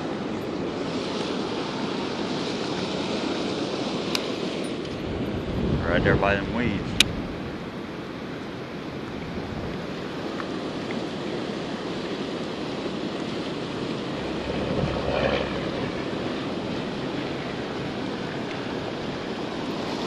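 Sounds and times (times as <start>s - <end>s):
wind noise on microphone: 0.0s - 8.0s, 8.9s - 20.0s
rushing spillway water: 0.0s - 20.0s.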